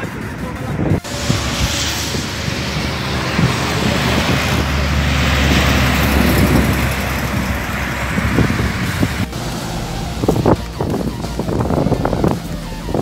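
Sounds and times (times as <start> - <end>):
truck driving past: 1.0 - 13.0.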